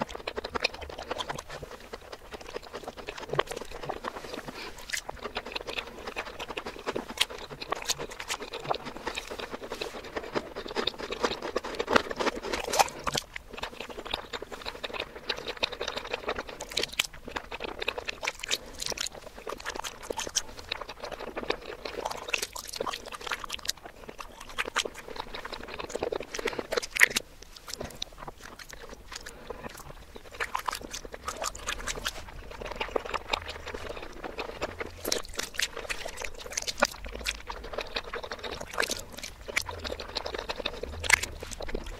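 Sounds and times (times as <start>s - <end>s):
reversed wet eating sounds: 0.0s - 41.9s.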